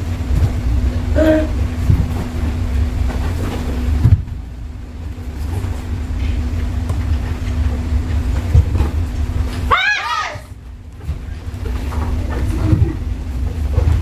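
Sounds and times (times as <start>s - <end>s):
constant hum: 0.0s - 14.0s
steady low rumble: 0.0s - 14.0s.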